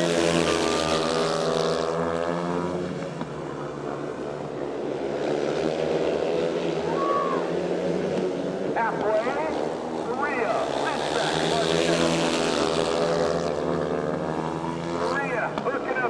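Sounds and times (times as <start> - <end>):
racing motorcycle engines: 0.0 - 16.0.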